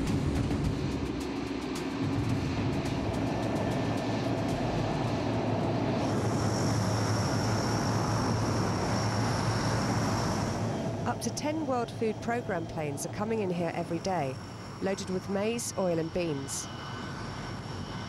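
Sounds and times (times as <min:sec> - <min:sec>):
aircraft engines droning: 0:00.0 - 0:18.0
turboprop turbine whine: 0:00.0 - 0:18.0.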